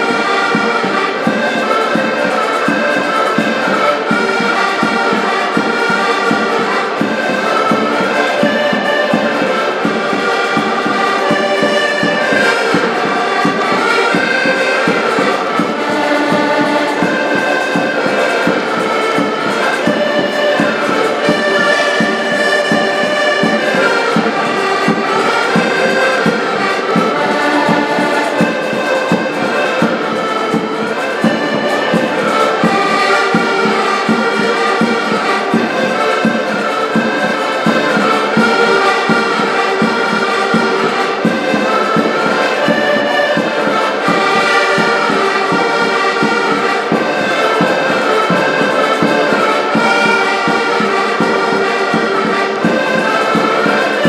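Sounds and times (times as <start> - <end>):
button accordions playing folk tune: 0.0 - 54.0.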